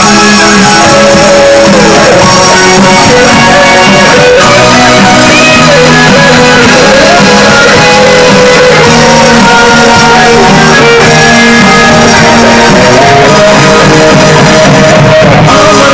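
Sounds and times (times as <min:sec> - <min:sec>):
live band music through speakers: 0:00.0 - 0:15.9.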